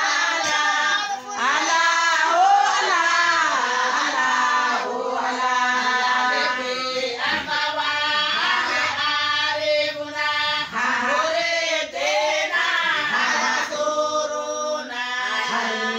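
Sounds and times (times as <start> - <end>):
women singing together: 0.0 - 15.9.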